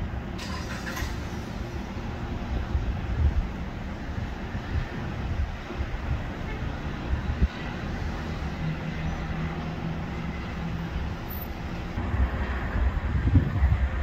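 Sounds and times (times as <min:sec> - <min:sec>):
gusty wind buffeting microphone: 0:00.0 - 0:14.0
passing street traffic rumble: 0:00.0 - 0:14.0
steady engine hum: 0:00.0 - 0:14.0.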